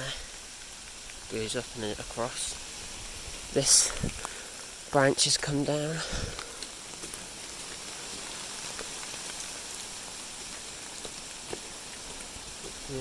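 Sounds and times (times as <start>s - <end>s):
rain falling: 0.0s - 13.0s
sharp individual raindrops: 0.0s - 13.0s.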